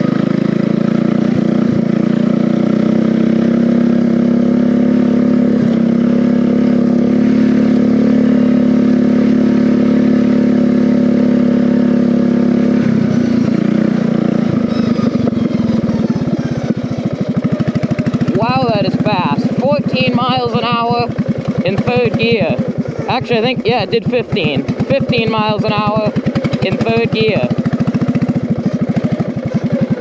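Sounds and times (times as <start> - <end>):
riding mower engine: 0.0 - 30.0.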